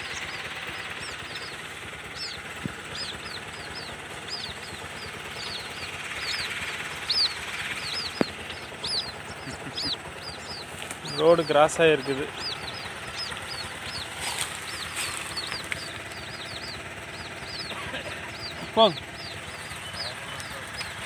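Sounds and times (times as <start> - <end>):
bird chick peeping: 0.0 - 21.0.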